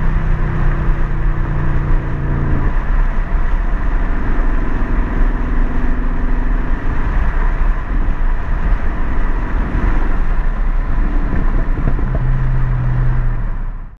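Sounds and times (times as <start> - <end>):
car engine and exhaust rumble: 0.0 - 14.0
road noise: 0.0 - 14.0.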